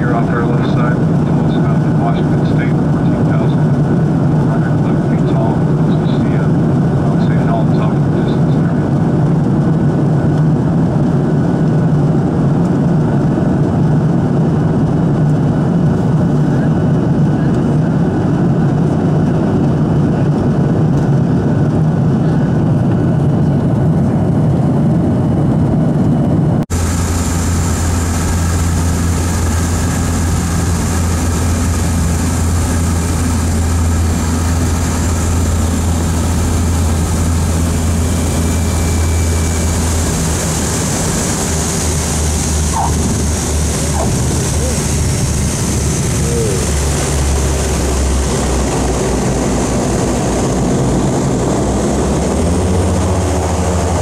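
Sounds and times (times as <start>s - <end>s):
airliner cabin rumble: 0.0s - 54.0s
propeller plane engine drone: 0.0s - 54.0s.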